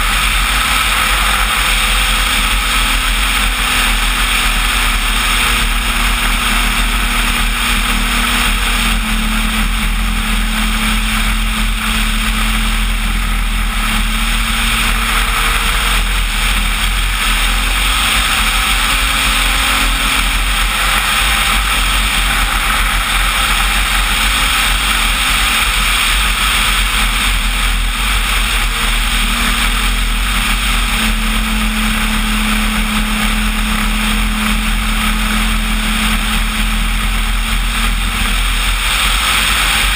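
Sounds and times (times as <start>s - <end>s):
model plane motor droning: 0.0s - 39.9s
wind rush on microphone: 0.0s - 39.9s.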